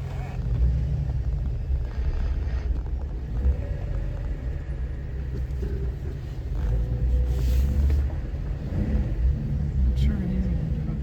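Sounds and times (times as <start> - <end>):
off-road vehicle engine rumbling: 0.0 - 11.0.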